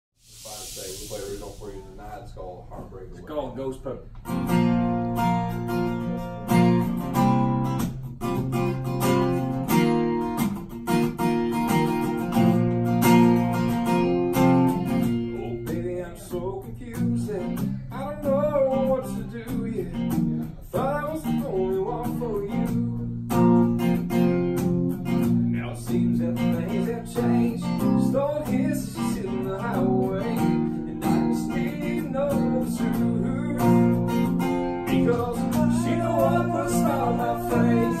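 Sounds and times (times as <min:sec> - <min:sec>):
acoustic guitar strumming: 0:04.1 - 0:38.0.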